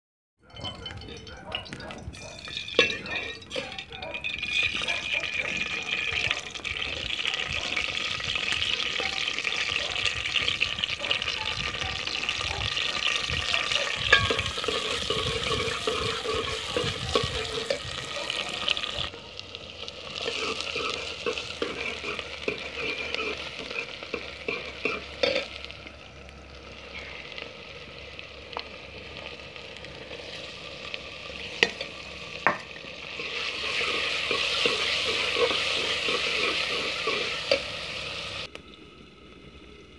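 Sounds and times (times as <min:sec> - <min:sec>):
onions sizzling in hot oil: 0:02.1 - 0:39.9.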